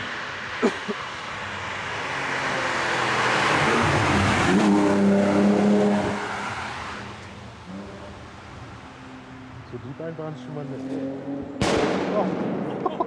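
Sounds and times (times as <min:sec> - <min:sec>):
cars passing at speed: 0:00.0 - 0:13.0.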